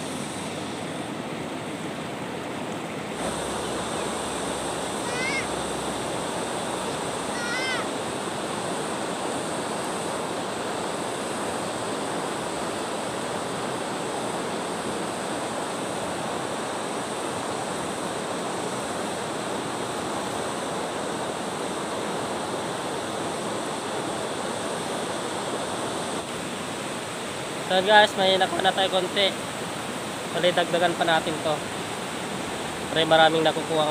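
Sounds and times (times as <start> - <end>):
river water rushing over rocks: 0.0 - 33.9.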